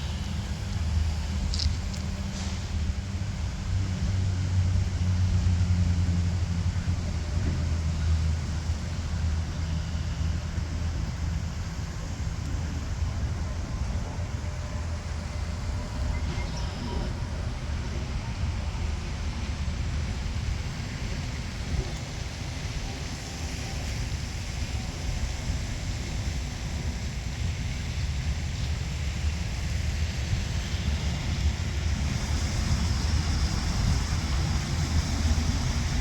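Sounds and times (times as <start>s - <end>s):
vehicle engine rumbling: 0.0s - 36.0s.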